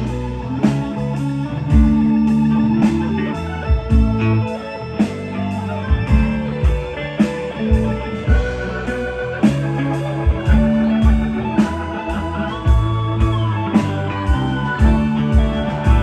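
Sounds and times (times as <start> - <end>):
electric guitar lines: 0.0 - 16.0
live rock band playing: 0.0 - 16.0.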